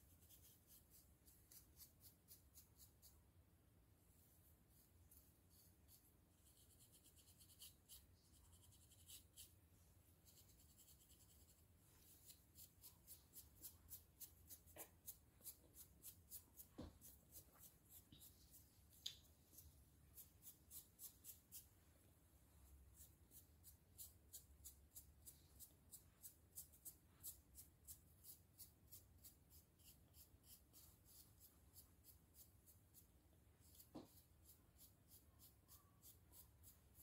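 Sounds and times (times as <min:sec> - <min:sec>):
comb scratching through scalp: 0:00.0 - 0:03.2, 0:04.2 - 0:21.8, 0:22.9 - 0:37.0.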